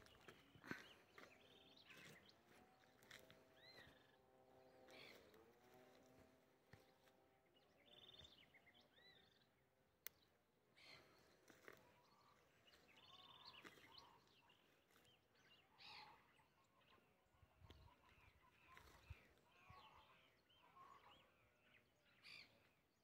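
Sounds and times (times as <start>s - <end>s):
faint birds chirping and trilling: 0.0s - 23.0s.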